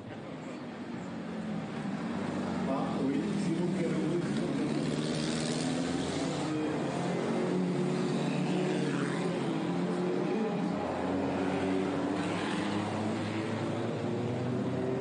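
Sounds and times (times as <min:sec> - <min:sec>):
racing car engine passing by: 0:02.2 - 0:15.0.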